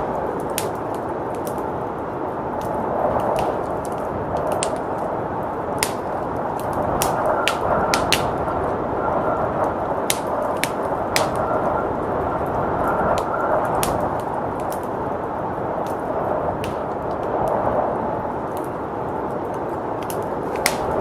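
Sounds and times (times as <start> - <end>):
rushing blizzard wind: 0.0 - 21.0
wood fire crackling: 0.0 - 21.0.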